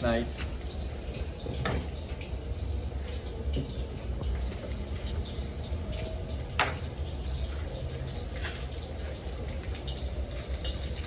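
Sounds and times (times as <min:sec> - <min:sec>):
vegetables frying in hot oil: 0:00.0 - 0:11.0.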